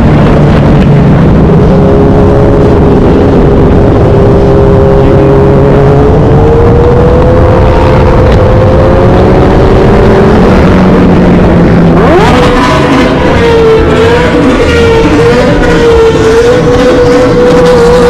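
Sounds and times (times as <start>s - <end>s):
motorcycle engine at high revs: 0.0s - 18.0s
wind rumbling on microphone: 0.0s - 18.0s.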